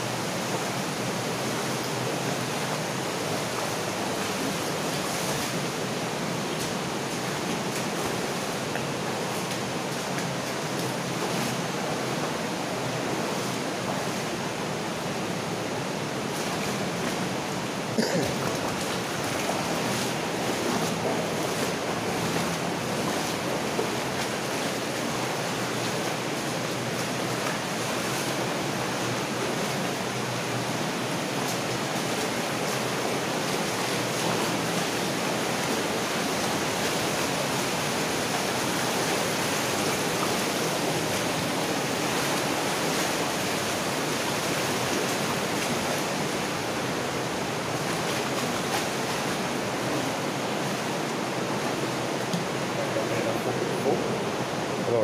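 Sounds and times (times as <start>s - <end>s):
water rushing through culvert: 0.0s - 55.0s.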